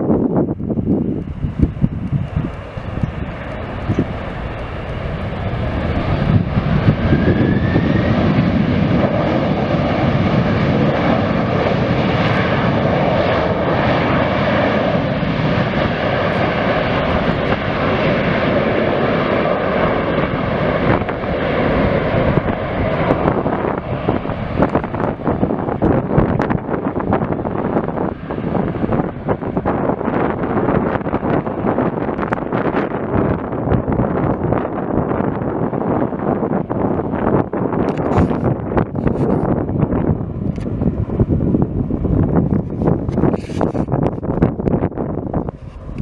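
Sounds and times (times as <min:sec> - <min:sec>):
airplane engines passing: 0:00.0 - 0:46.0
wind buffeting microphone: 0:00.0 - 0:46.0.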